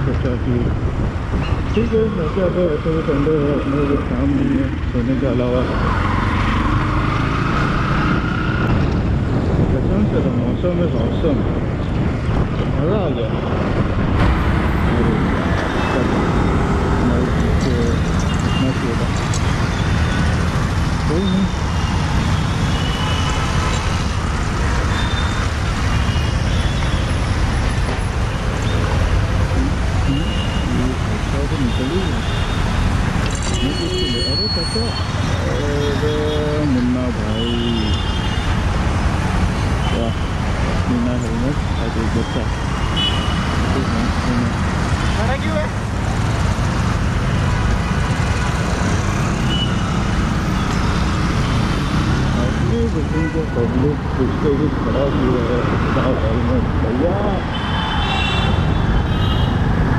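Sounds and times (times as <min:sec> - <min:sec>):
rumble of traffic engines: 0:00.0 - 0:59.9.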